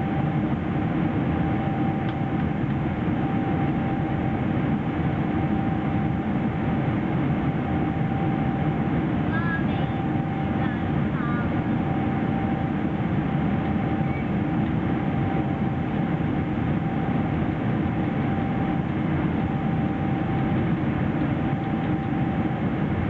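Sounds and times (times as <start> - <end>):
jet engine rumble and hiss: 0.0 - 23.0.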